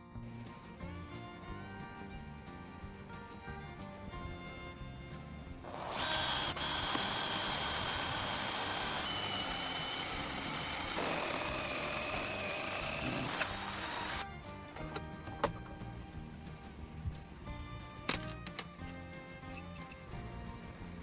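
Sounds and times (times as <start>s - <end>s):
background music: 0.0s - 21.0s
power tool whining: 0.5s - 21.0s.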